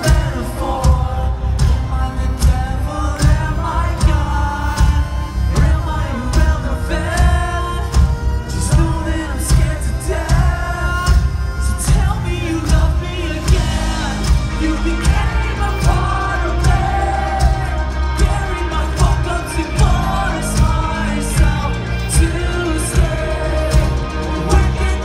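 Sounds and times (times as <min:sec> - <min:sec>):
live rock band playing: 0:00.0 - 0:25.0
man singing: 0:00.0 - 0:25.0.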